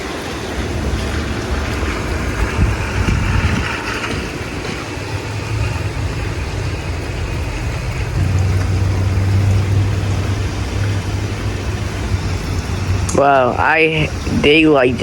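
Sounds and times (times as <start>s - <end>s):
low rumble: 0.0s - 15.0s
storm wind blowing: 0.0s - 15.0s.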